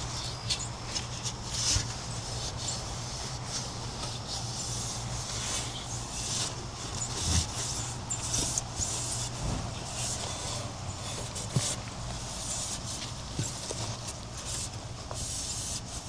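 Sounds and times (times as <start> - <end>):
steady low hum: 0.0 - 16.0
wiping strokes on refrigerator: 0.0 - 16.0.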